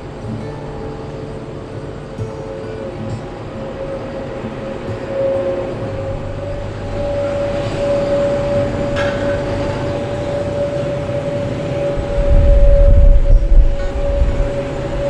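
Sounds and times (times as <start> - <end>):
jet engine whine: 0.0 - 15.0
jet engines rumbling: 0.0 - 15.0.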